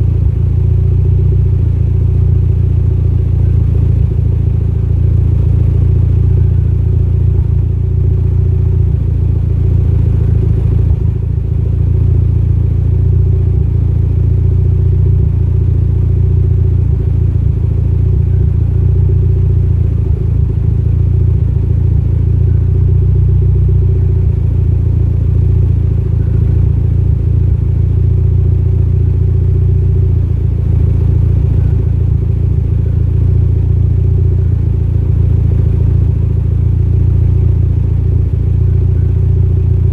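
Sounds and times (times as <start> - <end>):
car engine idling with misfire: 0.0 - 39.9.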